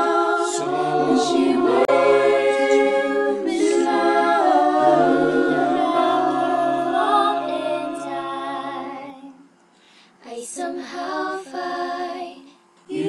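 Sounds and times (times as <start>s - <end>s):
mixed a cappella choir singing: 0.0s - 9.6s, 10.2s - 13.0s.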